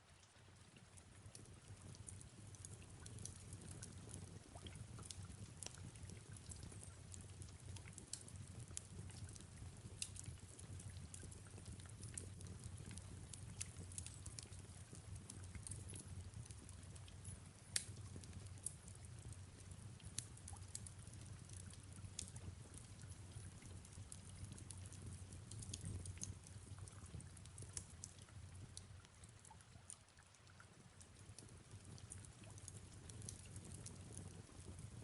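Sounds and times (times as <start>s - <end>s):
faint fireplace crackling: 0.0s - 35.0s
soft rain falling: 0.0s - 35.0s.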